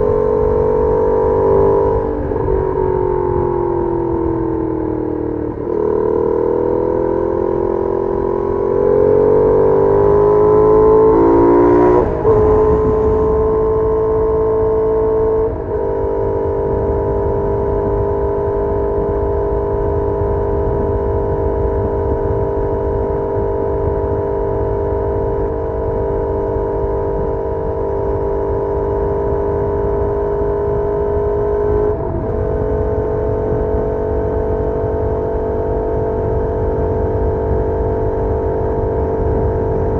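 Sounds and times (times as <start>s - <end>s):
motorcycle engine accelerating: 0.0s - 39.9s
wind rumble: 0.0s - 39.9s.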